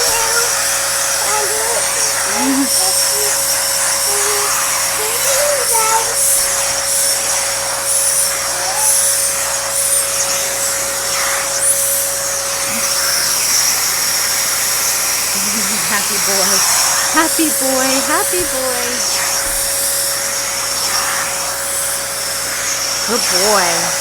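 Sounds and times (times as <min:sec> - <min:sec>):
vacuum cleaner whining: 0:00.0 - 0:24.0.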